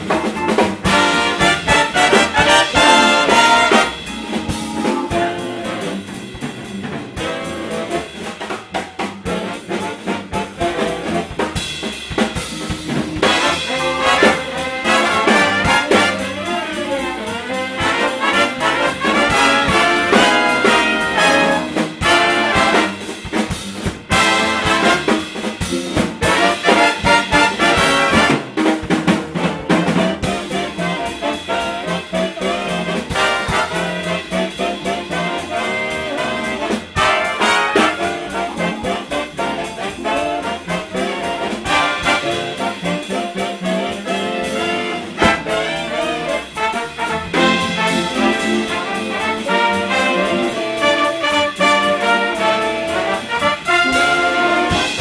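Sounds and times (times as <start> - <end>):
big band playing swing jazz: 0.0 - 55.0.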